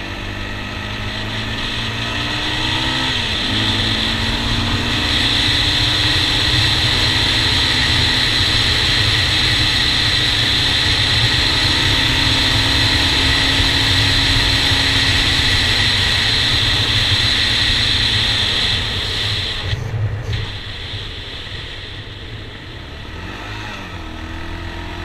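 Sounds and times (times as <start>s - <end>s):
quad engine running: 0.0s - 25.0s.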